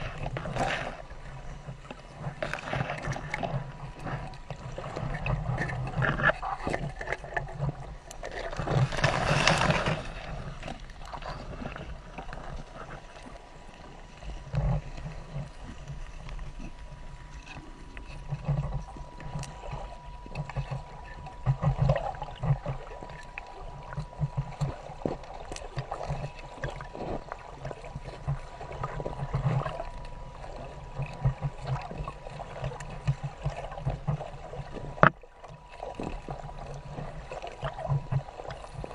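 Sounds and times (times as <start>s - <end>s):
water rushing and sloshing: 0.0s - 38.9s.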